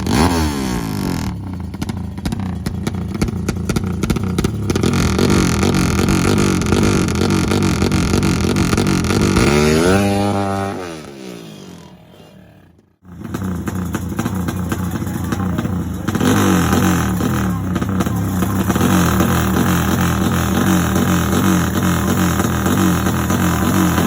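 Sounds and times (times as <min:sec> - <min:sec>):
motorcycle engine running loud: 0:00.0 - 0:24.0.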